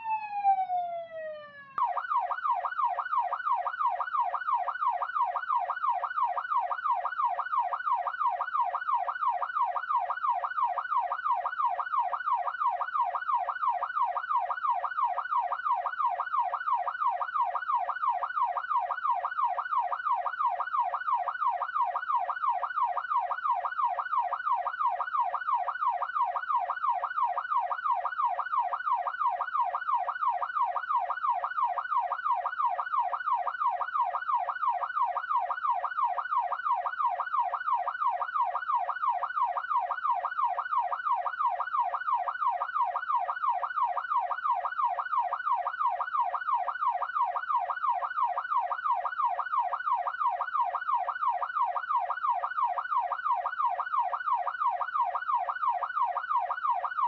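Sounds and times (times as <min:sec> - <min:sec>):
police siren yelping: 0:00.0 - 0:57.0.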